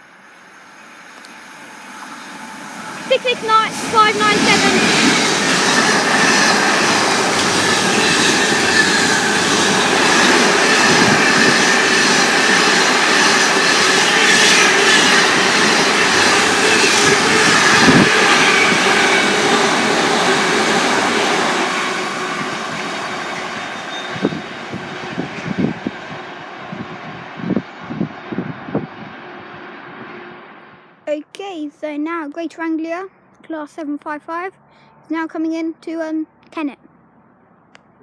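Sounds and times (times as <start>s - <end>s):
freight train rushing past: 0.1s - 31.0s.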